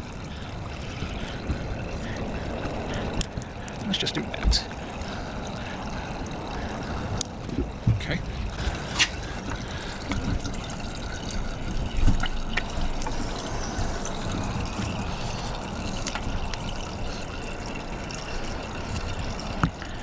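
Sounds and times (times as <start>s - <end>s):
oil trickling: 0.0s - 20.0s.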